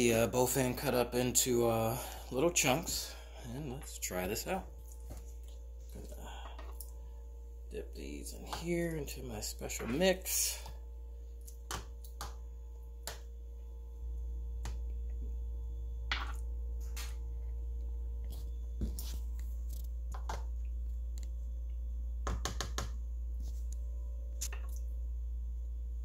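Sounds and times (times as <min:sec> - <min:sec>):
low hum: 0:00.0 - 0:22.3, 0:22.9 - 0:26.0.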